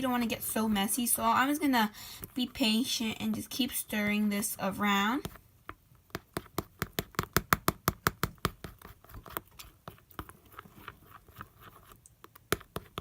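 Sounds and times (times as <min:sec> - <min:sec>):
utensil stirring slime in bowl: 0:00.0 - 0:13.0.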